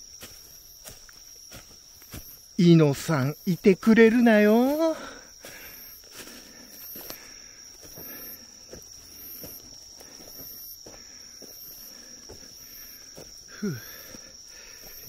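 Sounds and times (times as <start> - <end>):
footsteps through undergrowth: 0.0 - 2.6, 4.1 - 15.0
insect pulsing chirp: 0.0 - 15.0
insect steady high trill: 0.0 - 15.0.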